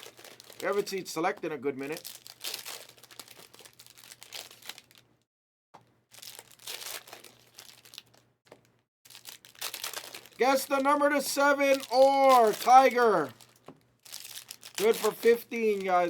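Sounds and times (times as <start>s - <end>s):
foil wrappers crinkling and tearing: 0.0s - 5.0s, 6.1s - 16.0s.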